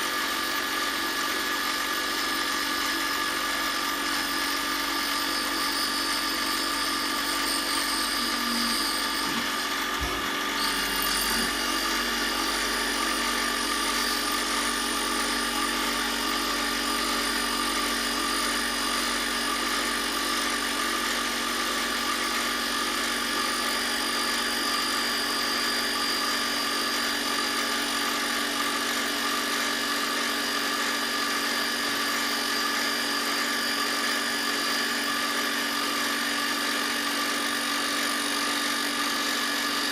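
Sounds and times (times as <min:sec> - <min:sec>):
power tool motor running: 0:00.0 - 0:39.9.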